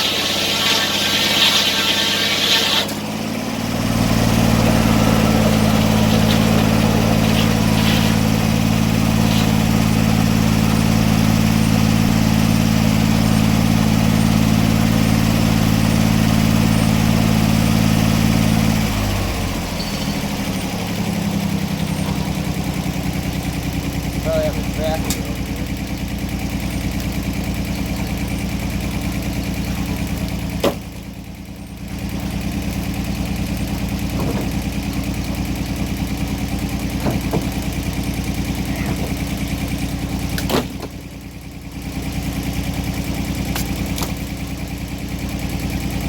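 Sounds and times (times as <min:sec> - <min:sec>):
engine running: 0:00.0 - 0:46.0.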